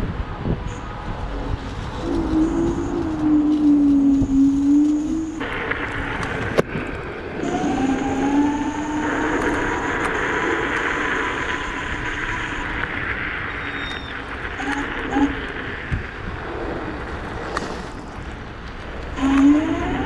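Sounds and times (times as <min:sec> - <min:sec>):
wind rushing: 0:00.0 - 0:20.0
electric scooter motor whining: 0:00.6 - 0:20.0
tyre hiss on wet road: 0:01.6 - 0:19.2.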